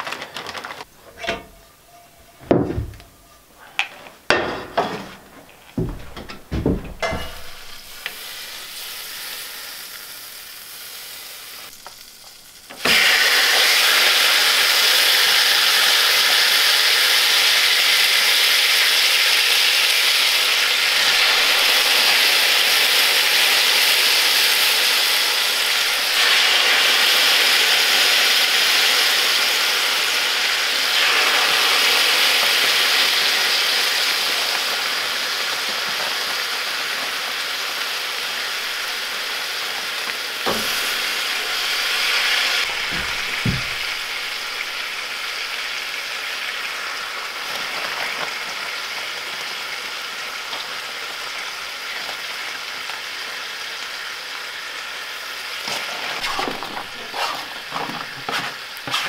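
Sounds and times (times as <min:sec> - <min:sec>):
meat sizzling in a frying pan: 0:07.3 - 0:59.0.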